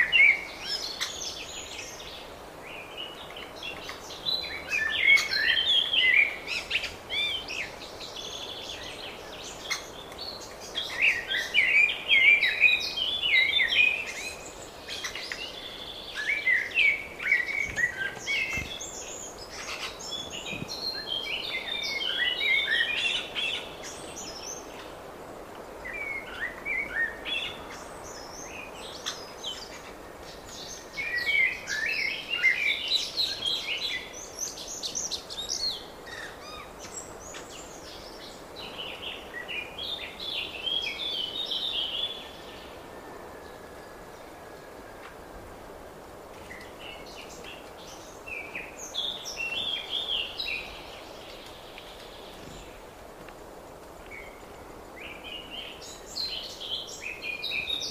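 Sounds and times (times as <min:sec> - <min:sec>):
songbirds warbling: 0:00.0 - 0:57.9.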